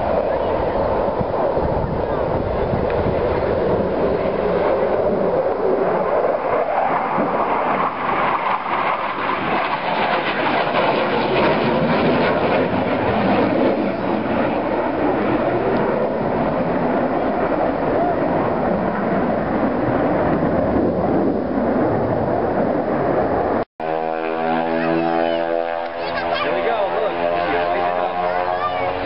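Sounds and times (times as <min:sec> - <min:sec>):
jet flying past: 0:00.0 - 0:29.0.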